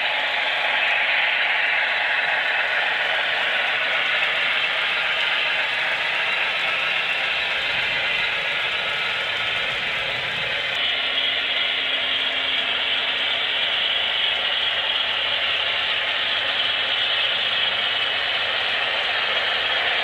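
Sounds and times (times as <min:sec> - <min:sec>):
model train whirring and clatter: 0:00.0 - 0:20.0.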